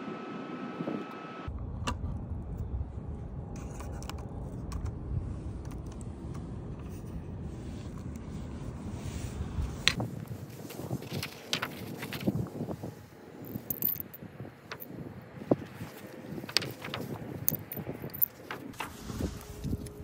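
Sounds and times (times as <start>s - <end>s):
low wind rumble on microphone: 0.0s - 20.0s.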